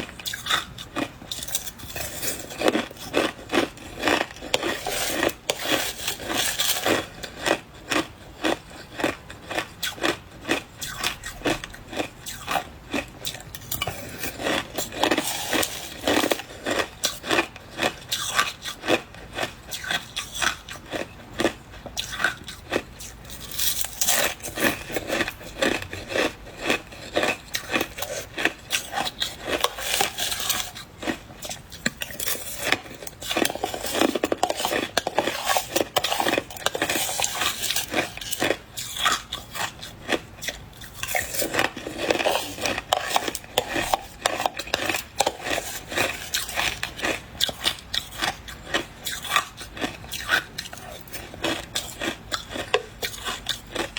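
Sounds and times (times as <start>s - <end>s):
chewing crunchy ice: 0.0s - 53.9s.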